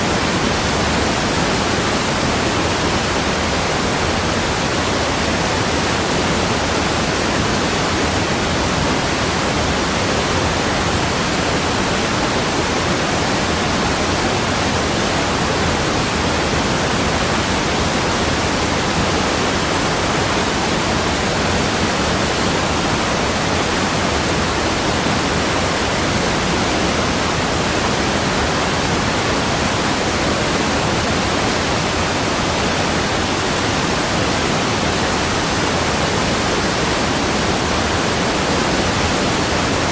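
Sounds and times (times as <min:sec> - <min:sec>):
waterfall: 0:00.0 - 0:39.9.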